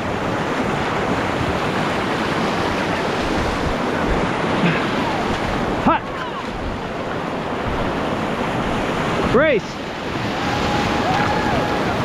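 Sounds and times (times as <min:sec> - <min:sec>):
river whitewater rushing: 0:00.0 - 0:12.0
wind buffeting microphone: 0:00.0 - 0:12.0.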